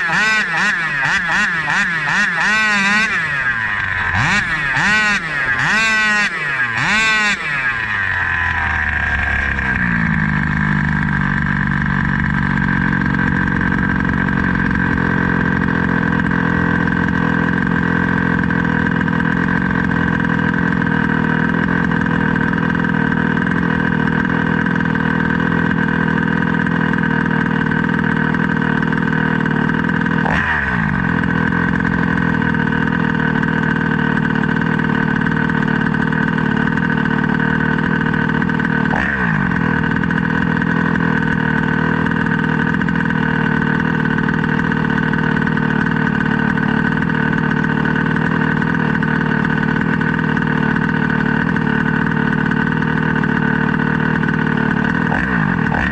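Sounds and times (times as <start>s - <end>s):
small two-stroke engine whining: 0.0s - 55.9s.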